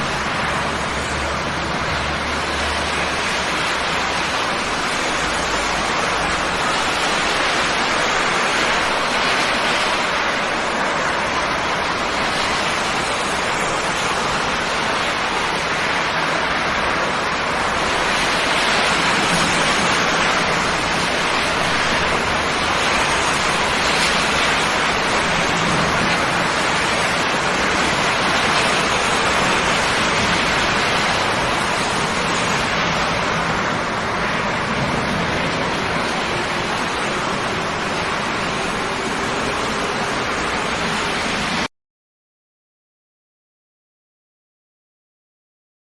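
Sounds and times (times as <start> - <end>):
rain falling on a river: 0.0 - 41.7.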